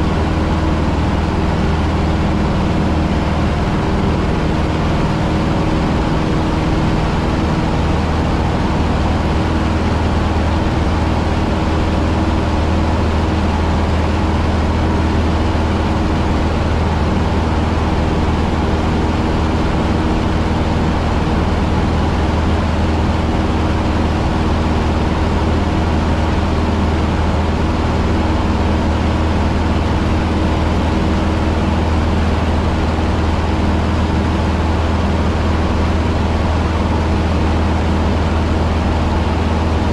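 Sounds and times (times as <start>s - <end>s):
small plane engine droning: 0.0s - 39.9s.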